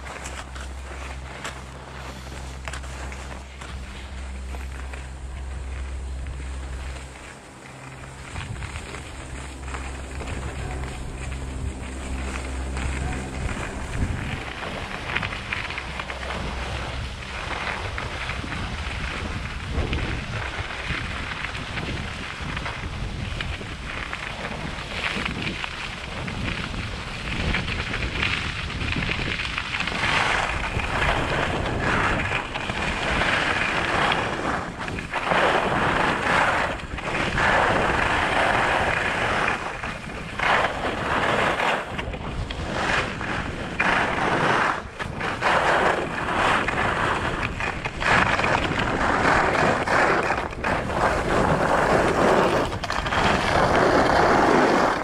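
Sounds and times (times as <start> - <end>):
skis scraping over snow: 0.0 - 55.0
wind rumble on microphone: 0.0 - 55.0.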